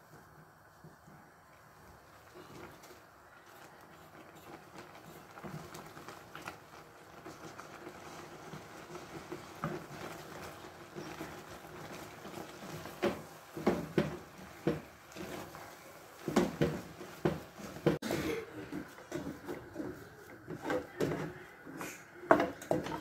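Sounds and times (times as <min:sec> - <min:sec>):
wooden stick stirring dough: 0:00.0 - 0:23.0.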